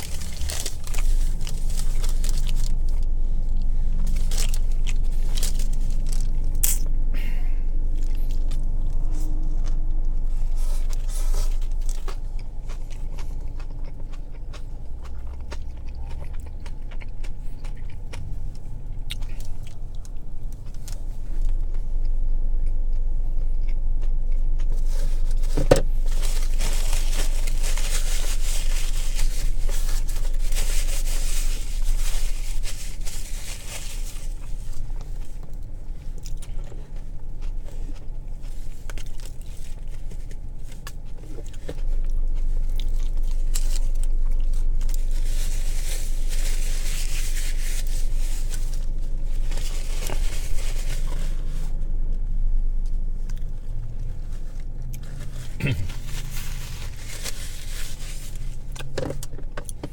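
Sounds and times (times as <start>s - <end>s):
chewing and crunchy bites: 0.0s - 59.9s
steady low hum: 0.0s - 59.9s.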